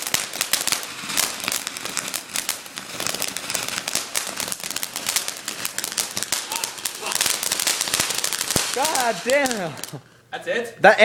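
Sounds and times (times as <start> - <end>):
firework crackling and popping: 0.0 - 10.3.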